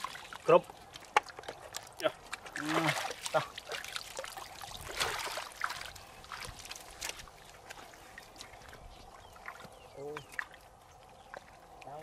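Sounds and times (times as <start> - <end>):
footsteps squelching in mud: 0.0 - 11.8.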